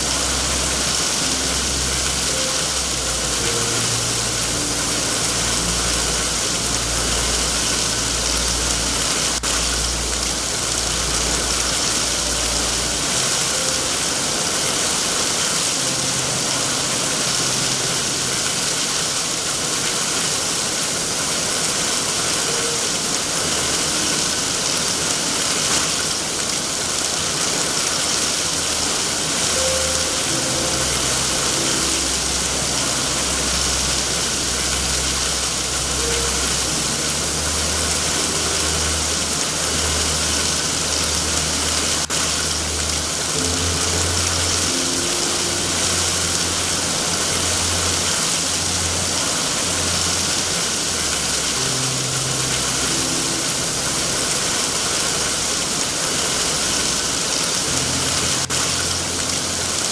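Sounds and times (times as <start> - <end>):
heavy rain hissing: 0.0 - 59.9
soft low music notes: 0.0 - 59.9.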